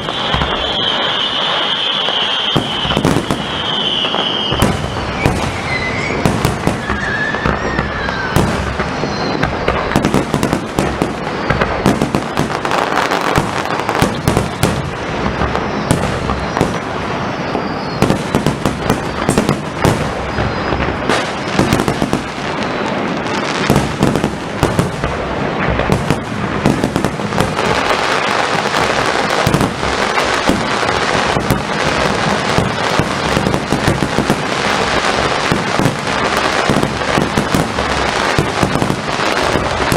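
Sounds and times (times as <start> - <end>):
firework crackling: 0.0 - 39.9.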